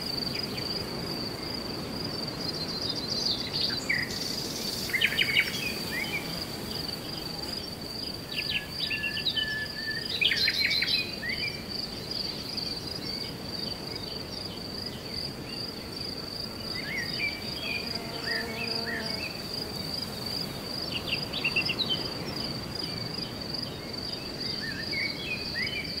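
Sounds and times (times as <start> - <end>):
high insect trill: 0.0 - 26.0
low outdoor hiss: 0.0 - 26.0.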